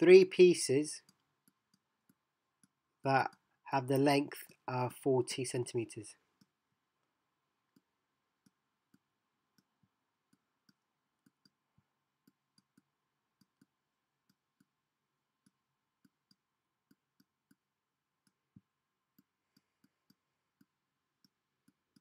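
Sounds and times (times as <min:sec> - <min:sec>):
stylus clicking on drawing tablet: 0:01.0 - 0:03.6, 0:06.2 - 0:22.0.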